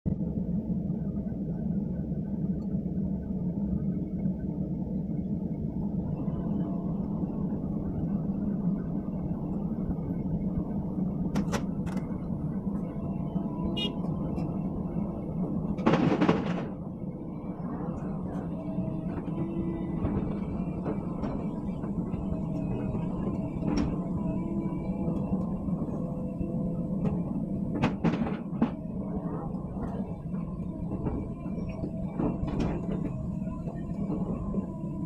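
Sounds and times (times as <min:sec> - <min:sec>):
excavator diesel engine running: 0:00.2 - 0:35.0.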